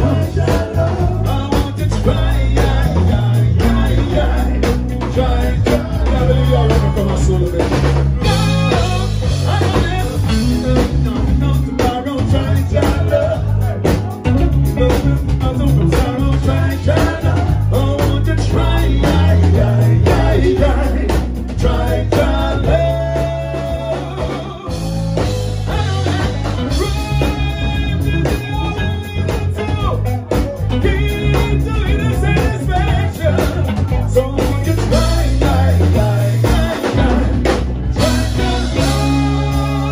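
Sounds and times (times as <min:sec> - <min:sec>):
man singing into microphone: 0:00.0 - 0:39.9
reggae band playing: 0:00.0 - 0:39.9.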